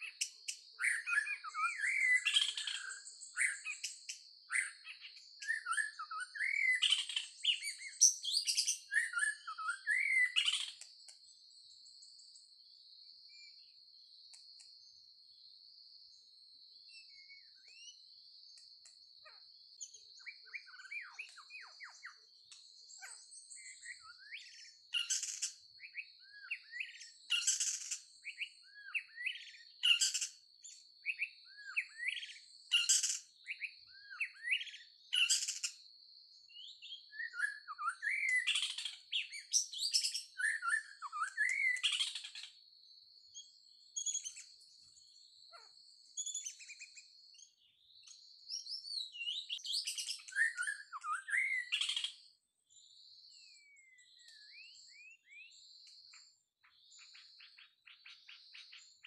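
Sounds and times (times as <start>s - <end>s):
songbird calling: 0.0s - 59.0s.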